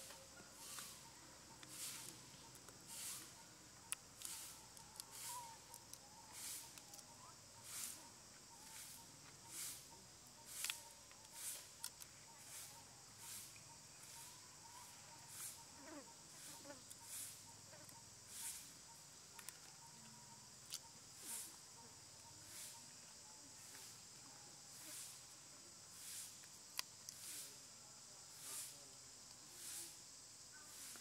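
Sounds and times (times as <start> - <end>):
pulsing insect hiss: 1.7 - 3.5, 4.2 - 19.9, 21.1 - 23.0, 23.6 - 31.0.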